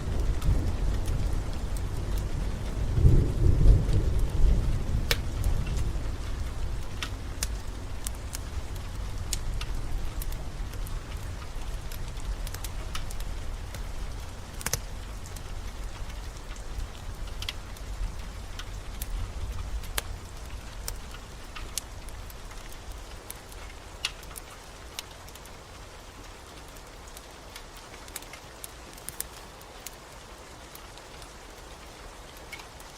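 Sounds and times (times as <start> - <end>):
steady rain: 0.0 - 32.9
wood fire crackling: 0.0 - 32.9.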